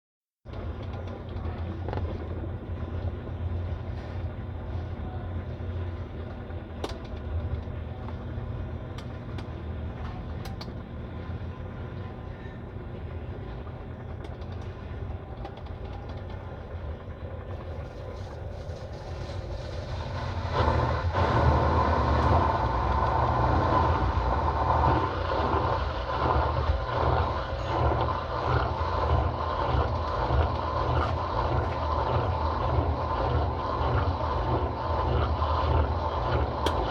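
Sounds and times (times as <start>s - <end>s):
washing machine humming: 0.4s - 36.9s.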